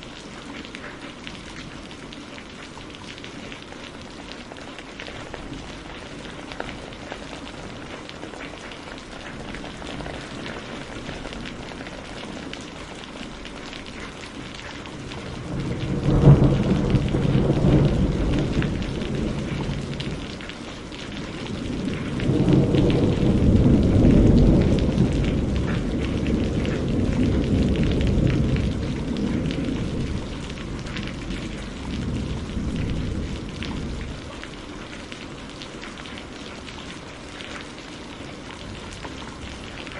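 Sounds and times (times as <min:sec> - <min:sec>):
steady rain falling: 0:00.0 - 0:39.9
thunder cracking and rumbling: 0:04.4 - 0:39.9.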